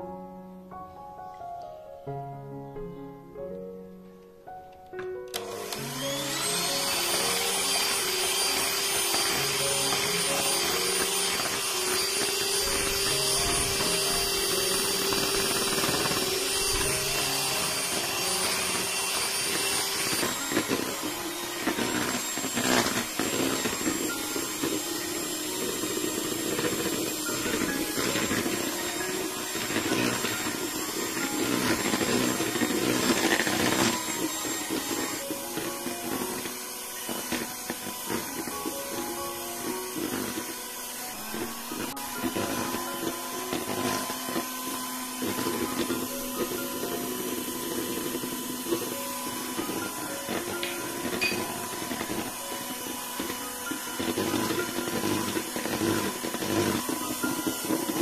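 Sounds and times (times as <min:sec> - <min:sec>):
electric hand mixer whining: 0:04.9 - 0:58.0
mixer clicks: 0:05.3 - 0:58.0.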